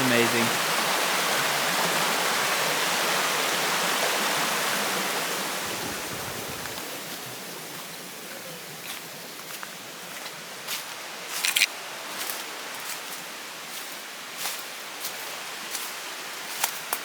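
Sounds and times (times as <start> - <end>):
running and falling water: 0.0 - 17.0.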